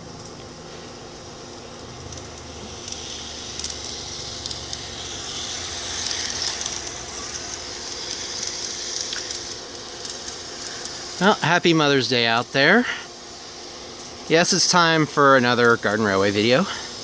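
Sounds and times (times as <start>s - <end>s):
model train motor whirring: 2.0s - 16.9s.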